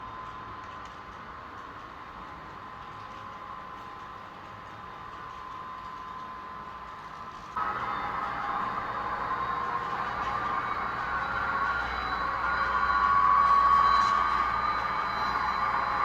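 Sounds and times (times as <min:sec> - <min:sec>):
model locomotive engine sound: 0:00.0 - 0:16.0.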